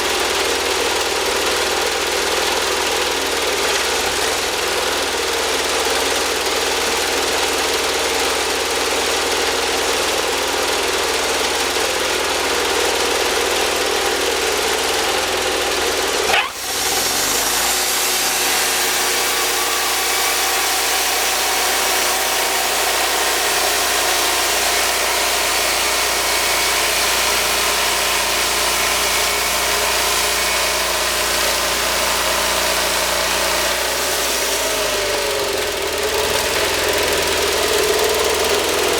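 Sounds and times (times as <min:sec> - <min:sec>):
band sawmill engine running: 0:00.0 - 0:38.9.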